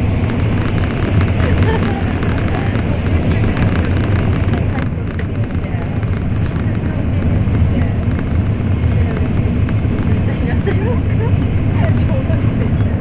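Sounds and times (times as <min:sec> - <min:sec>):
train cabin rumble and hiss: 0:00.0 - 0:13.0.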